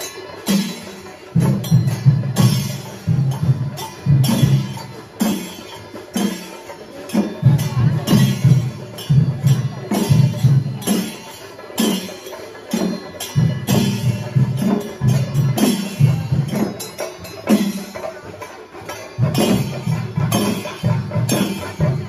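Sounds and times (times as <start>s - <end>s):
percussion ensemble drumming: 0.0s - 22.0s.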